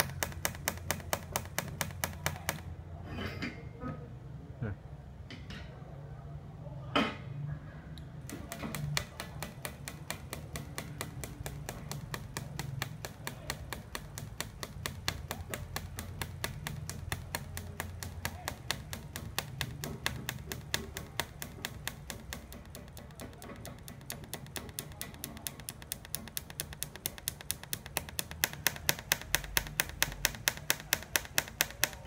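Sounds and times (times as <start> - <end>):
welding machine rhythmic ticking: 0.0 - 2.7, 8.2 - 32.0.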